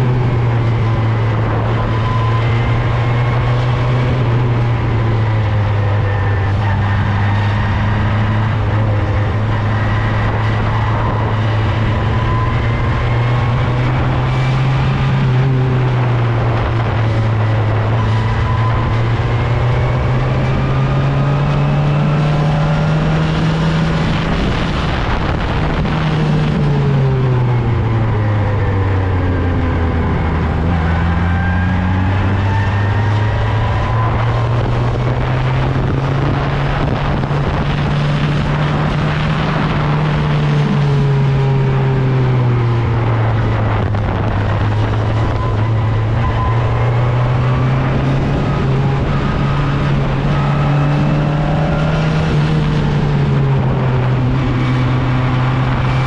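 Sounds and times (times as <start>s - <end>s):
race car engine running hard: 0.0s - 56.0s
steady rushing noise: 0.0s - 56.0s.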